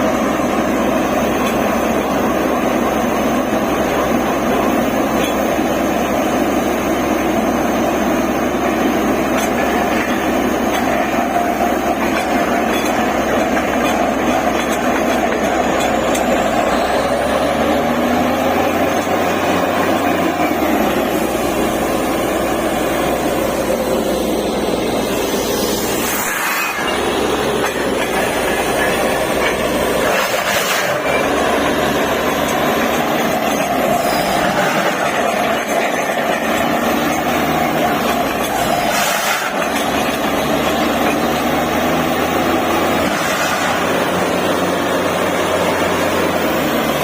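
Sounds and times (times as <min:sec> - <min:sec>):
drilling rig running: 0:00.0 - 0:47.0.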